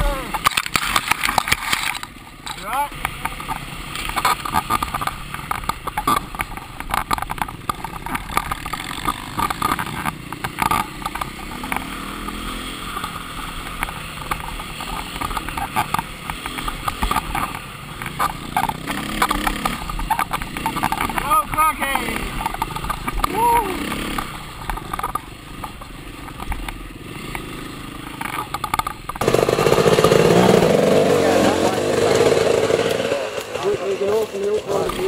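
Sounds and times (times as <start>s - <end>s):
bike clattering over rough ground: 0.0s - 35.0s
dirt bike engine under throttle: 0.0s - 35.0s.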